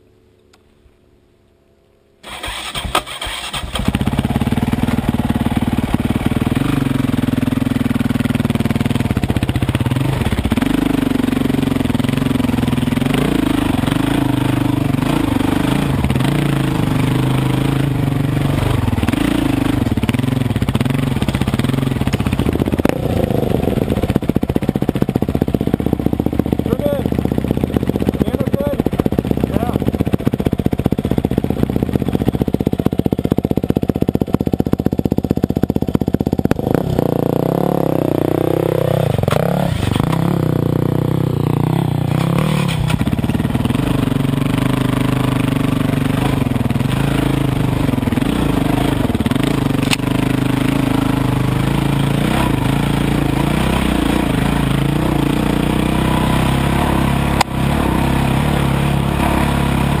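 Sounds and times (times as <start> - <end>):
dirt bike engine: 0.0 - 60.0.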